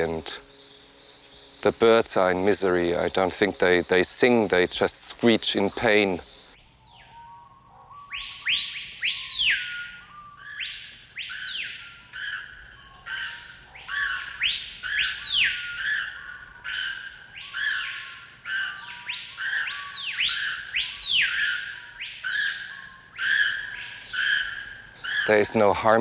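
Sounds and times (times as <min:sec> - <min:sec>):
jungle birds screeching: 0:00.0 - 0:04.8, 0:05.4 - 0:26.0.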